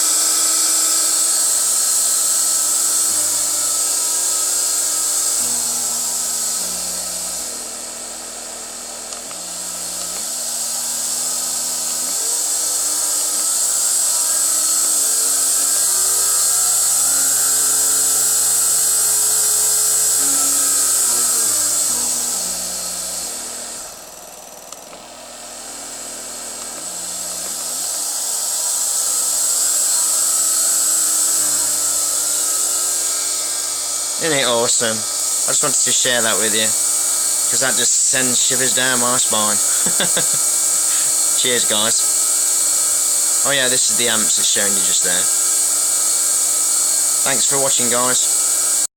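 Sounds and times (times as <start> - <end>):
electric motor hum stepping in pitch: 0.0 - 48.9
steady high-pitched whine: 0.0 - 48.9.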